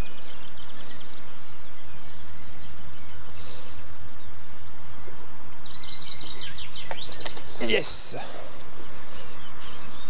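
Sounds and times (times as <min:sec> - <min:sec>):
faint bird chirps: 0:00.0 - 0:10.0
outdoor background noise: 0:00.0 - 0:10.0.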